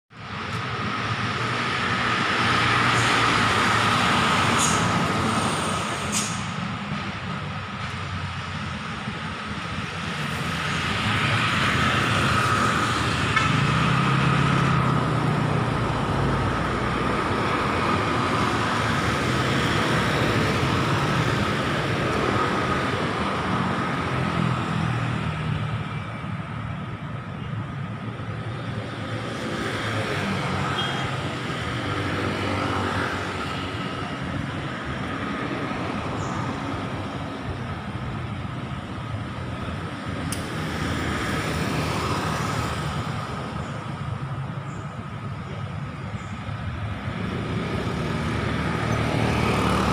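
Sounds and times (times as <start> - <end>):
road traffic hum: 0.1 - 49.9.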